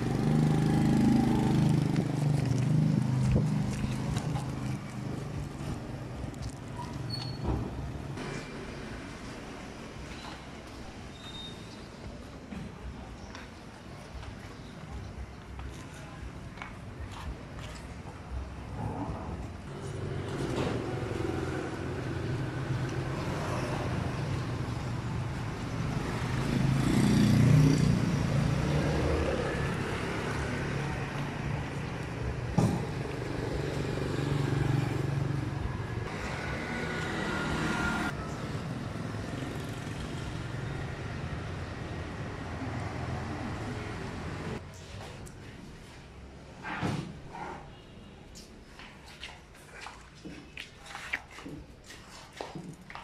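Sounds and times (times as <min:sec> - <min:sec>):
vehicles passing: 0:00.0 - 0:16.3, 0:17.0 - 0:46.5.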